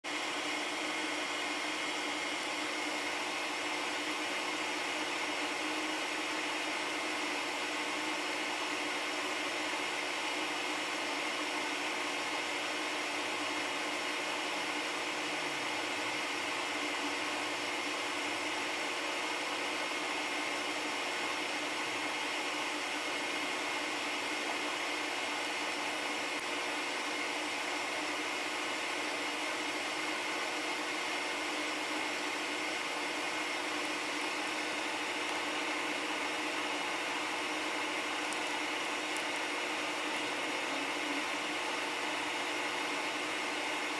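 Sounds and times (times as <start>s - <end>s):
machine whirring with hum: 0.1s - 43.9s.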